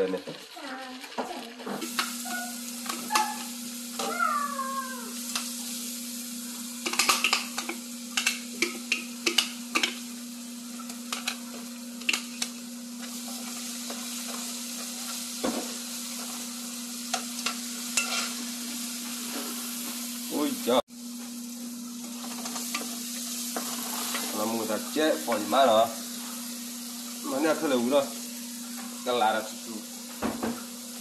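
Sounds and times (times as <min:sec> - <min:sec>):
food sizzling in hot oil: 0:00.0 - 0:31.0.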